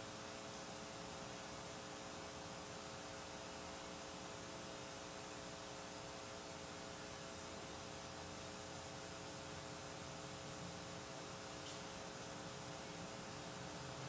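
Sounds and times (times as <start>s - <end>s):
constant hiss: 0.0s - 14.0s
electrical hum: 0.0s - 14.0s.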